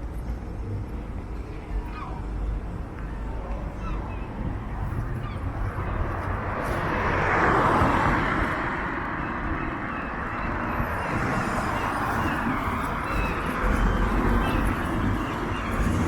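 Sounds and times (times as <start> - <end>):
low rumble of town traffic: 0.0 - 16.0.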